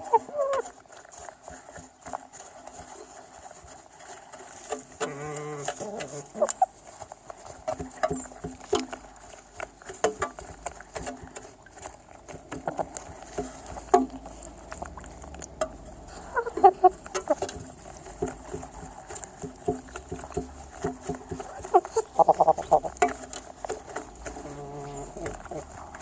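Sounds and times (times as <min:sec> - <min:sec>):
hen clucking: 0:00.0 - 0:02.2, 0:04.4 - 0:26.0
chickens pecking at feed: 0:00.0 - 0:26.0.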